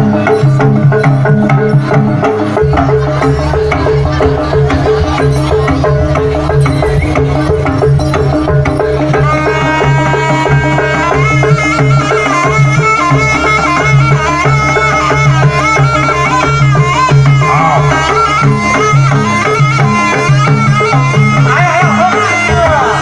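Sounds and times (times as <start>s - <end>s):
drums and gongs: 0.0s - 23.0s
reedy shawm melody: 0.0s - 23.0s.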